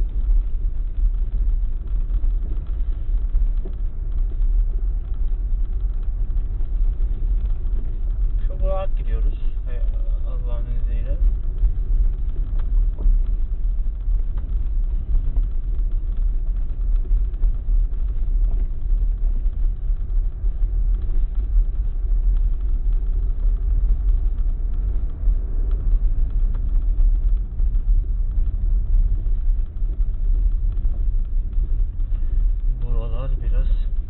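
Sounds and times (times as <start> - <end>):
car engine: 0.0 - 34.0.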